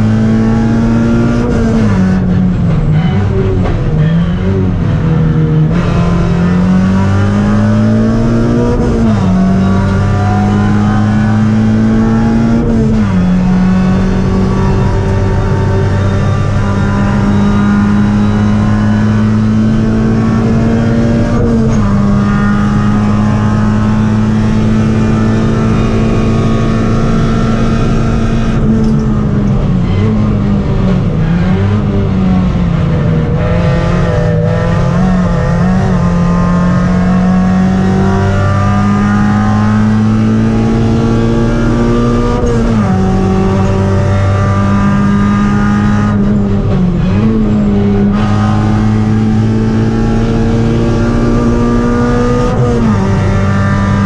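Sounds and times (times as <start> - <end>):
race car engine under load: 0.0 - 54.0.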